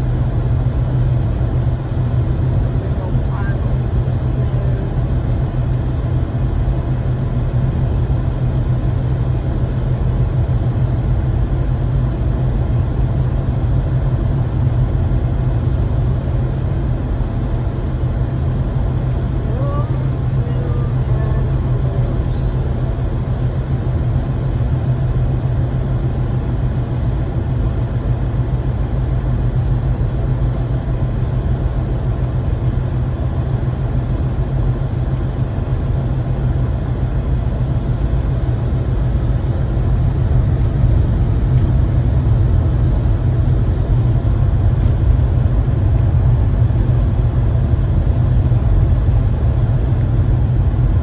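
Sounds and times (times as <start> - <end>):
car cabin road and engine rumble: 0.0 - 51.0.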